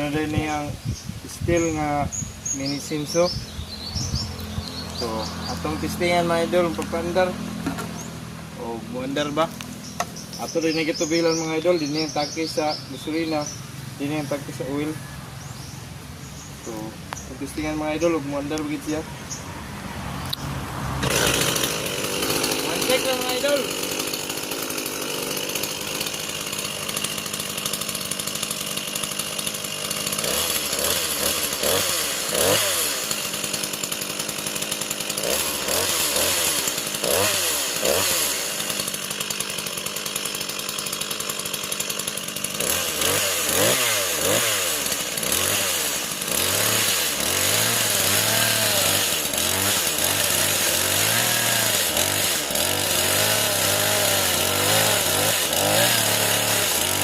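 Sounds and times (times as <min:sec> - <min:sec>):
chainsaw engine revving: 0:00.0 - 0:00.7, 0:01.3 - 0:57.0.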